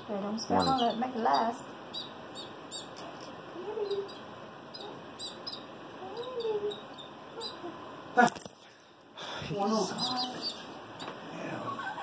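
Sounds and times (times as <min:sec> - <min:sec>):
baby birds cheeping: 0:00.0 - 0:08.4, 0:09.6 - 0:12.0.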